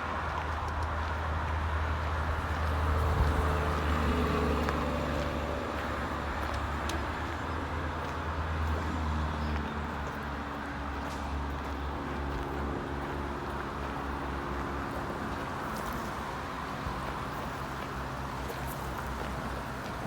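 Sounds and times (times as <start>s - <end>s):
road traffic rumble: 0.0s - 20.0s
vehicle passing: 1.6s - 20.0s.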